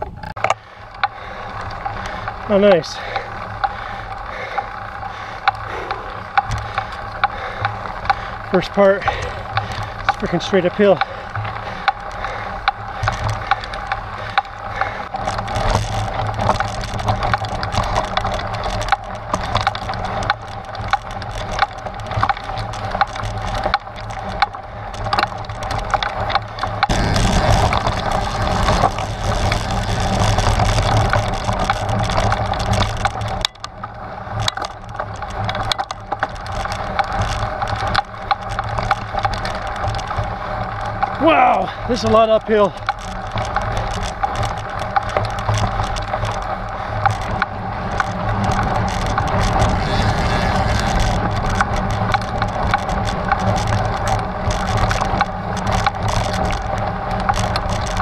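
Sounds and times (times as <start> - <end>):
bike rattling: 0.0 - 58.0
bike tyres crunching over gravel: 0.0 - 58.0
stones clicking and knocking: 0.1 - 58.0.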